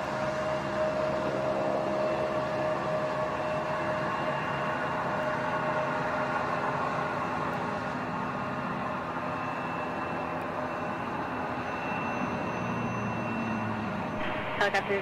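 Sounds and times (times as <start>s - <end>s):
helicopter in flight: 0.0s - 15.0s.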